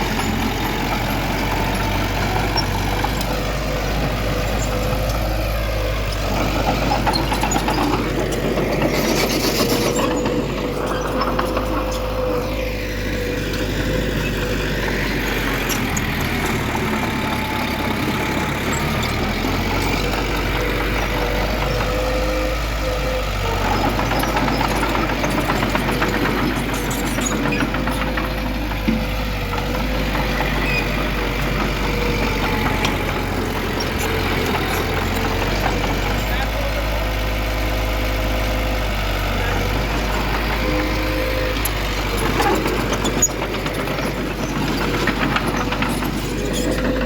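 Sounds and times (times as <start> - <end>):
heavy machinery engine running: 0.0 - 47.0.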